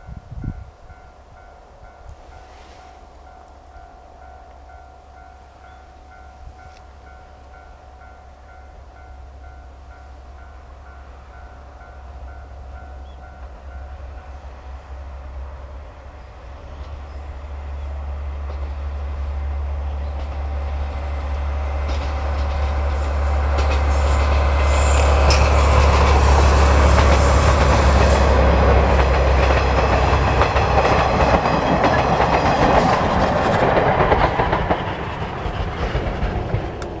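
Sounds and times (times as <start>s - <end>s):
diesel locomotive engine droning: 0.0s - 37.0s.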